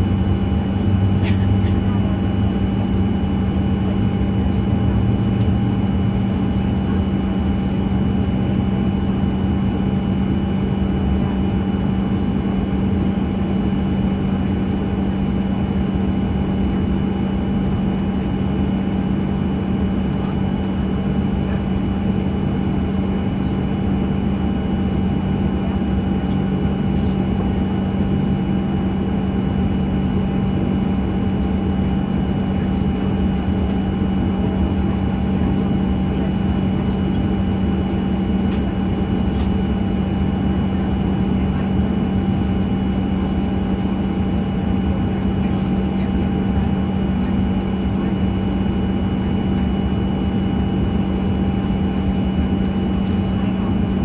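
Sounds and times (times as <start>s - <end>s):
aircraft cabin hum: 0.0s - 54.0s.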